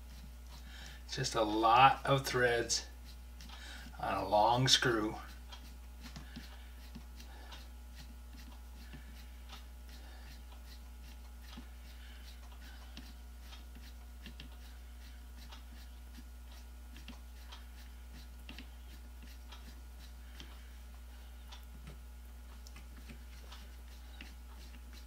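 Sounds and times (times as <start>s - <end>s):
steady low hum: 0.0s - 25.0s
screwdriver ticks and scrapes: 0.1s - 25.0s.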